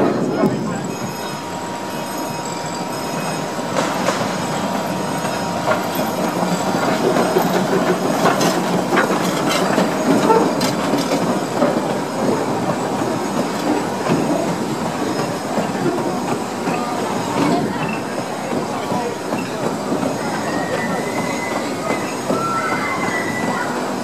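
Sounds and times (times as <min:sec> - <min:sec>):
steam locomotive running past: 0:00.0 - 0:24.0
wheels clicking over rail joints: 0:02.0 - 0:24.0.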